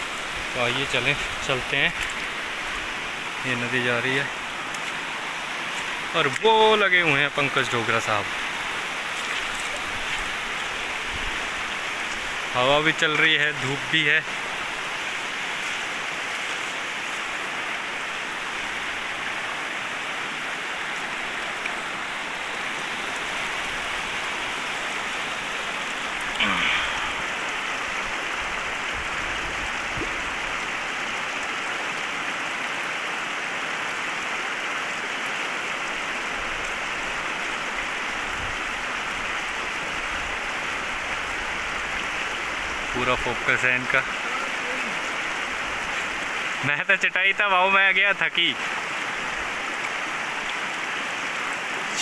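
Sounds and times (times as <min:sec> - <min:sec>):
river rushing over rocks: 0:00.0 - 0:52.0.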